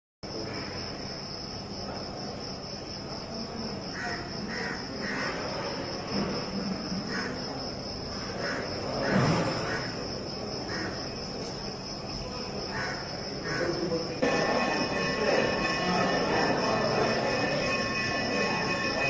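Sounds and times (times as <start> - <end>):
crickets trilling: 0.2 - 19.0.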